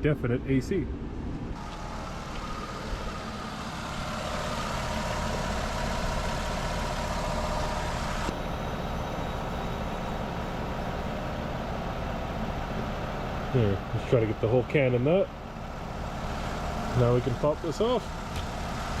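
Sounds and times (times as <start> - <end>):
air-conditioning blower rushing: 0.9 - 19.0
car engine idling: 1.5 - 19.0.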